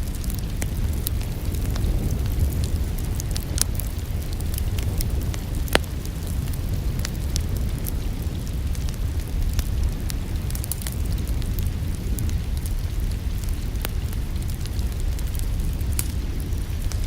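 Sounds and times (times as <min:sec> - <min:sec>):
fire pops and snaps: 0:00.0 - 0:17.0
low rumble of flames: 0:00.0 - 0:17.0
rain: 0:00.0 - 0:17.0
wood fire crackling: 0:00.0 - 0:17.0.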